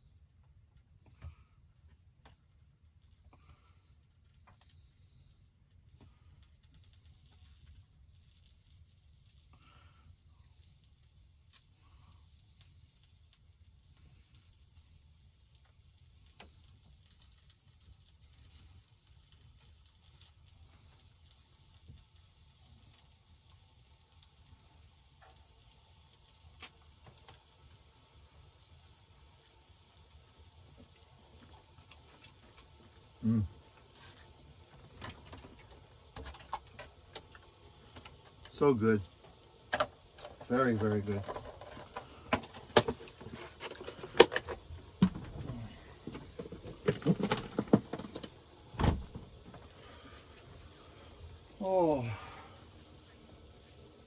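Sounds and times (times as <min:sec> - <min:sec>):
meat sizzling in a pan: 0:06.8 - 0:54.0.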